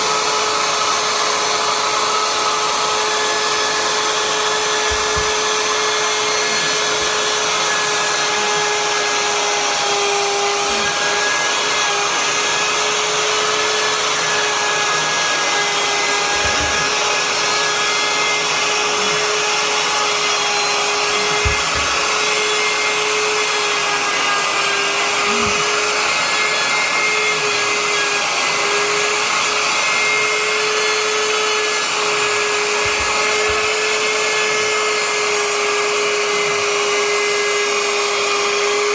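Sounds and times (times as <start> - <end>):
router whining cutting wood: 0.0 - 38.9.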